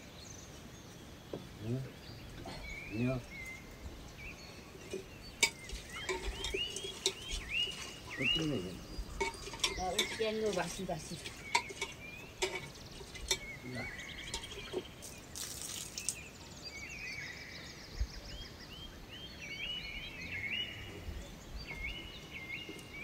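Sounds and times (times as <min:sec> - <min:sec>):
outdoor background noise: 0:00.0 - 0:23.0
small birds chirping: 0:00.0 - 0:23.0.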